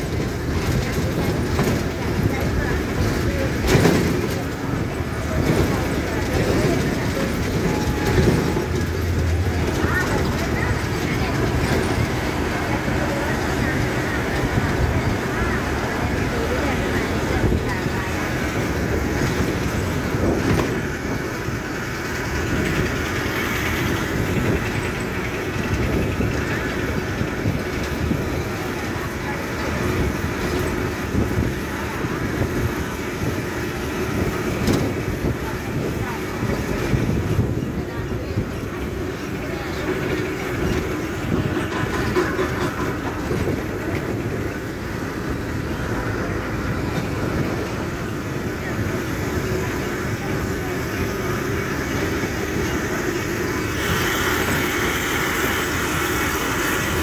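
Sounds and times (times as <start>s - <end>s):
bus body rattle: 0.0s - 53.8s
vehicle engine and road rumble: 0.0s - 57.0s.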